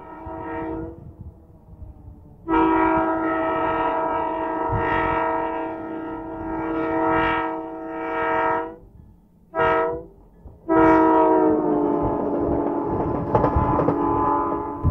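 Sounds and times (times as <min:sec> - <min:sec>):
locomotive air horn blasts: 0:00.0 - 0:01.2, 0:02.4 - 0:08.9, 0:09.5 - 0:14.9
passing train rumble: 0:00.0 - 0:14.9.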